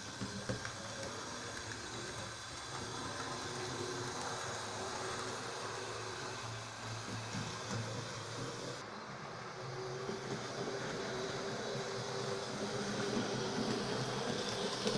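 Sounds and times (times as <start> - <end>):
model trains running on track: 0.0 - 14.9.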